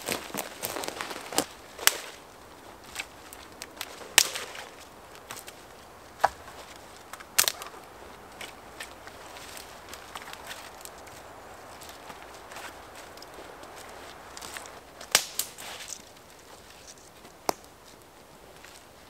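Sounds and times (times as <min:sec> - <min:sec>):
dry sticks clattering: 0:00.0 - 0:17.8.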